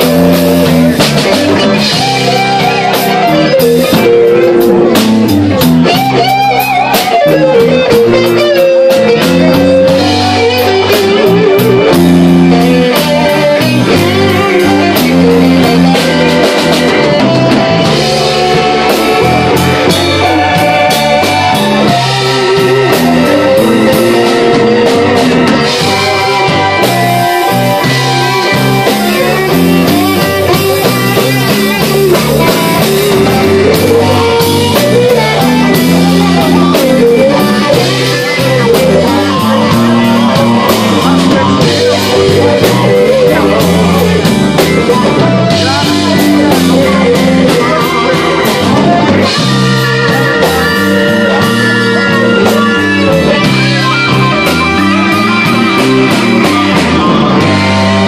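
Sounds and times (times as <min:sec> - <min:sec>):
blues band playing: 0:00.0 - 0:58.0
electric guitar lead: 0:00.0 - 0:58.0.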